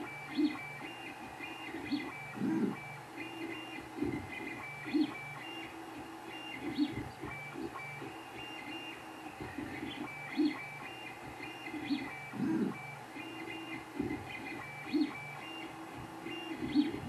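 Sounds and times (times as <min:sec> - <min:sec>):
printer stepper motors whining: 0:00.0 - 0:17.0.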